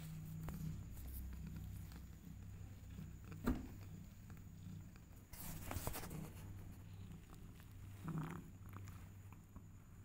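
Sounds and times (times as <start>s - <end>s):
cat purring: 0.0s - 10.0s.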